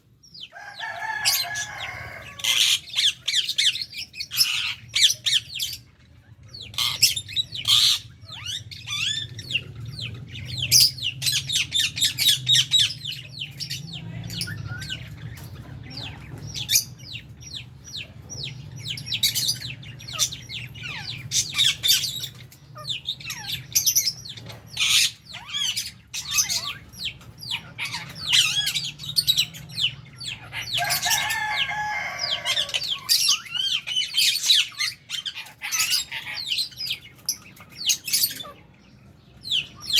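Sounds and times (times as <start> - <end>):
birds chirping and screeching: 0.0 - 39.9.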